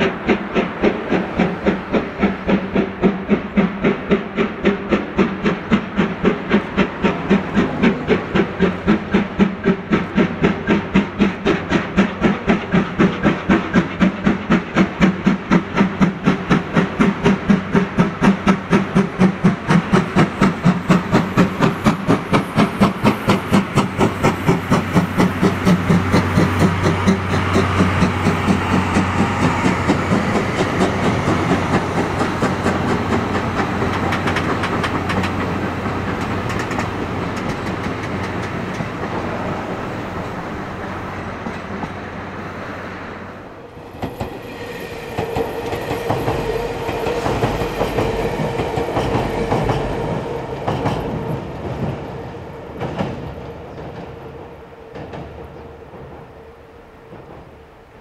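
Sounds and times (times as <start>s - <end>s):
passing train rumble: 0.0s - 58.0s
steam hissing: 0.0s - 58.0s
steam locomotive chuffing: 0.0s - 58.0s.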